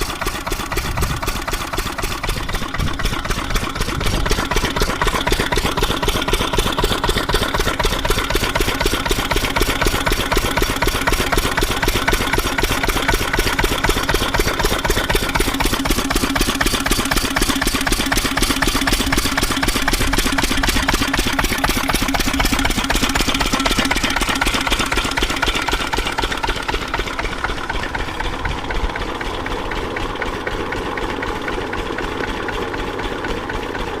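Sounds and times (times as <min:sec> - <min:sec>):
single-cylinder diesel engine running: 0:00.0 - 0:34.0.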